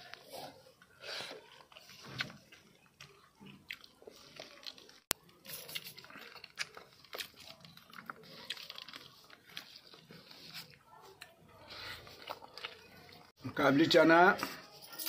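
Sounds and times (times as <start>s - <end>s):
man chewing: 0.0s - 13.3s.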